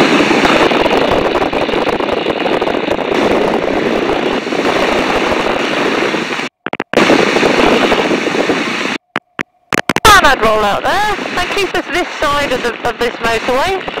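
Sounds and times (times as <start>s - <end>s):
propeller plane engine in flight: 0.0s - 14.0s.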